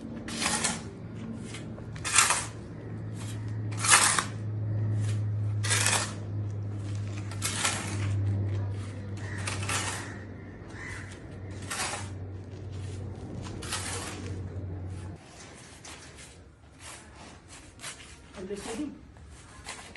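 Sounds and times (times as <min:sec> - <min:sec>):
low hum: 0:00.0 - 0:16.1
hand tool scraping masonry: 0:00.0 - 0:19.9.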